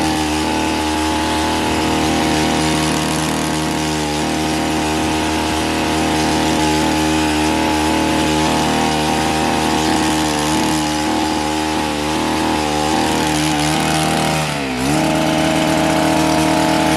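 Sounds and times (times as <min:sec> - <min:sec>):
small petrol engine running: 0:00.0 - 0:16.9.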